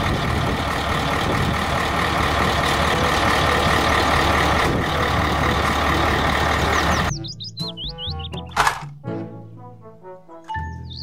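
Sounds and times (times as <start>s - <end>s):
heavy truck engine running: 0.0s - 8.8s.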